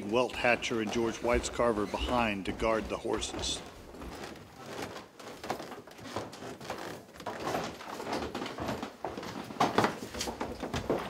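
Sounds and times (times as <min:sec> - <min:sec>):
footsteps on wooden floor: 0:00.0 - 0:11.0.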